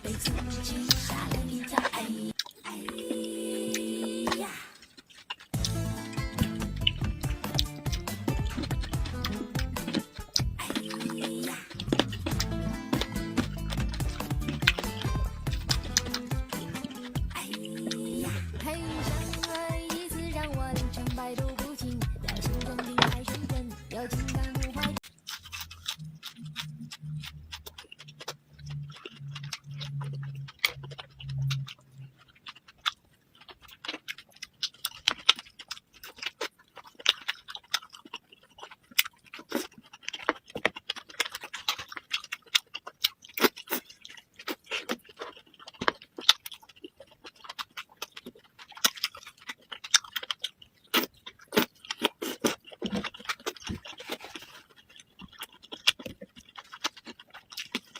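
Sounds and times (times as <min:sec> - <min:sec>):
person chewing and smacking: 0:00.0 - 0:57.9.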